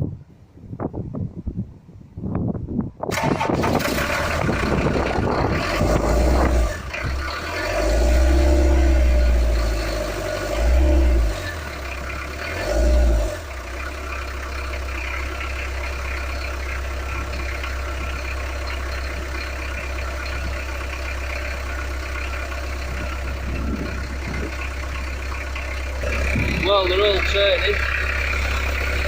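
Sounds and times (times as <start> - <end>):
diesel engine idling: 3.1 - 29.0.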